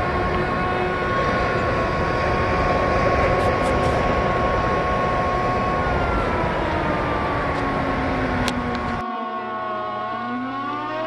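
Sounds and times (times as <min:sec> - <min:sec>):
steady rush of noise: 0:00.0 - 0:09.2
warning siren wailing: 0:00.0 - 0:11.0.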